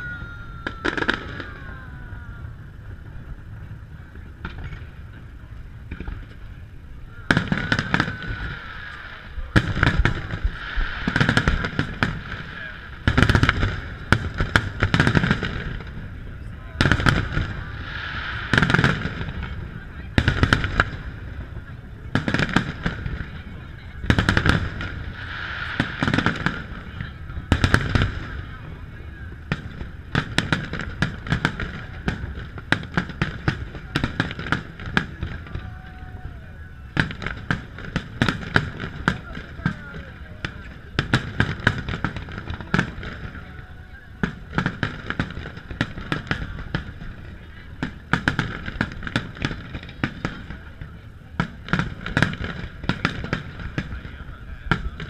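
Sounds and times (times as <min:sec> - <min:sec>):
firework crackles: 0:00.0 - 0:55.0.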